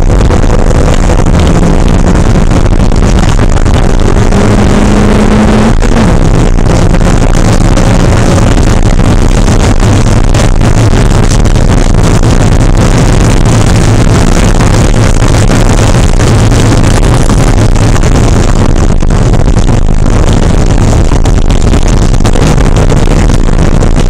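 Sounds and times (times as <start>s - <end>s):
car engine running under load: 0.0s - 24.0s.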